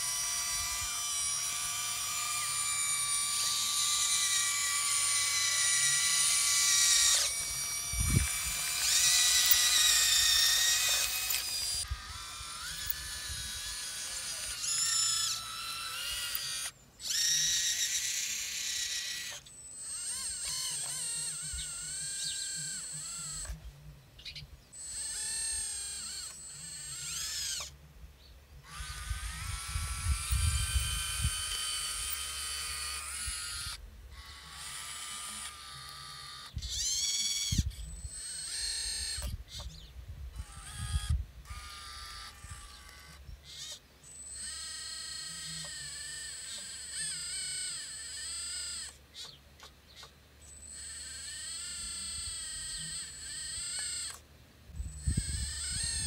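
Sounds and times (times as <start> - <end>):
hydraulic pump whining: 0.0 - 23.6, 28.7 - 49.0, 50.4 - 54.2, 54.8 - 56.0.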